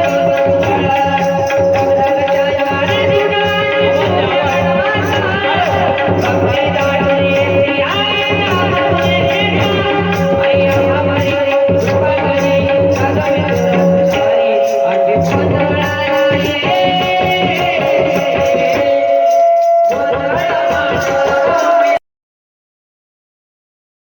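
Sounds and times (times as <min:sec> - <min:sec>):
devotional song: 0:00.0 - 0:22.0
hand drum rhythm: 0:00.0 - 0:22.0.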